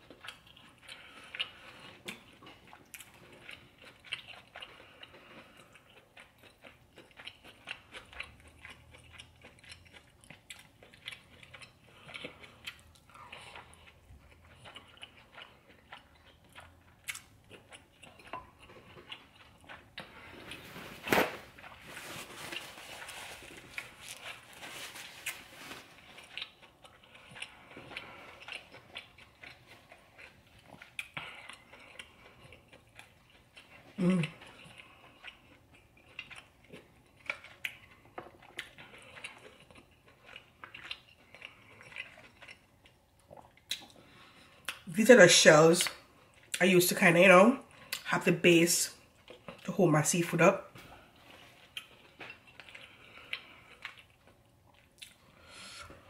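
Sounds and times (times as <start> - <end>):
person chewing food: 0.0 - 44.9, 45.8 - 46.7, 47.6 - 48.1, 48.9 - 49.7, 50.6 - 56.0.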